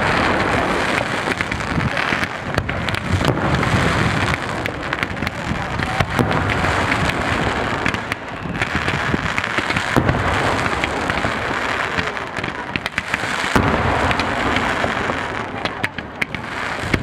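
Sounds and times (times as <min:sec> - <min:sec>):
fireworks crackling pops: 0:00.0 - 0:17.0
fireworks loud bangs: 0:00.0 - 0:17.0.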